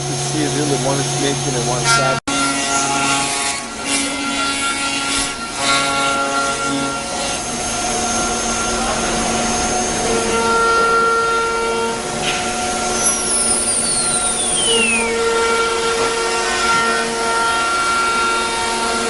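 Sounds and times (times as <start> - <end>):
spindle winding down: 0.0 - 19.0
wood router spindle whine: 0.0 - 19.0.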